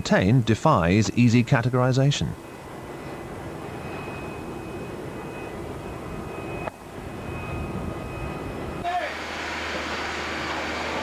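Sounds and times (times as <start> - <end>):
jet engine running: 0.0 - 11.0.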